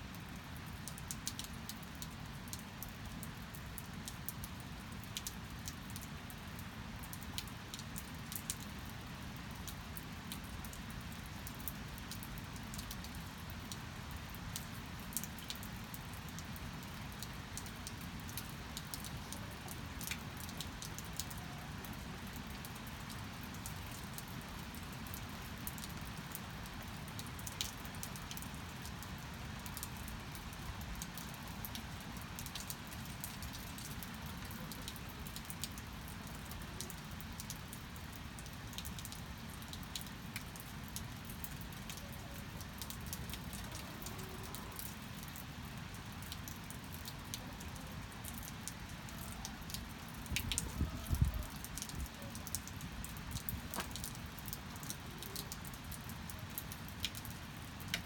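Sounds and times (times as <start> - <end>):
steady rain with dripping drops: 0.0 - 58.0.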